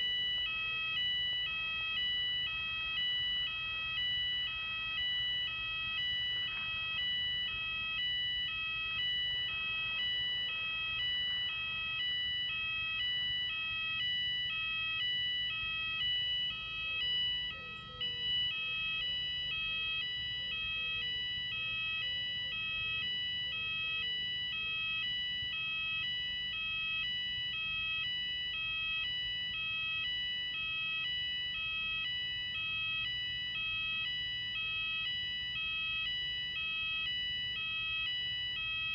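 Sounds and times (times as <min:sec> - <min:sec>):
fire alarm sounders: 0:00.0 - 0:38.9.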